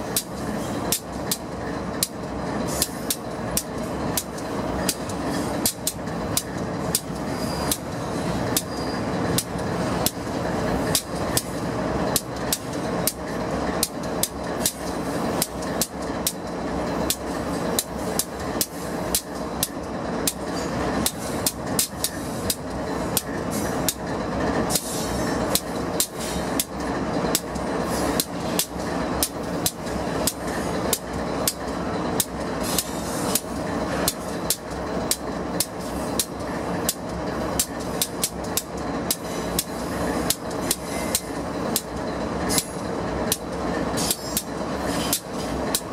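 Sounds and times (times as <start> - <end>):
rumble of passing freight cars: 0.0 - 45.9
train wheels clacking on rails: 0.0 - 45.9.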